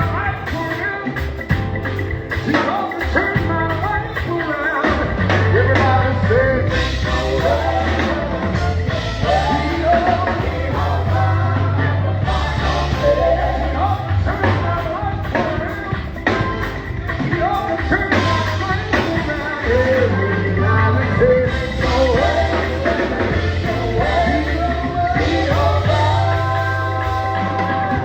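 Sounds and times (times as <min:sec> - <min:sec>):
band music: 0:00.0 - 0:28.0
steady bass line: 0:00.0 - 0:28.0
person singing: 0:02.4 - 0:28.0.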